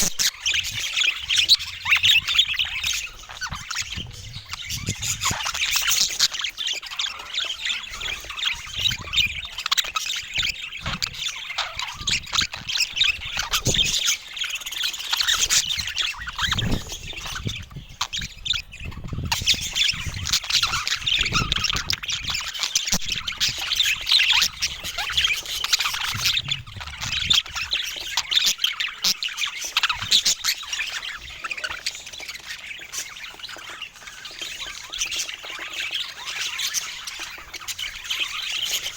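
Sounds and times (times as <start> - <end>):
budgies chirping and chattering: 0.0 - 38.9.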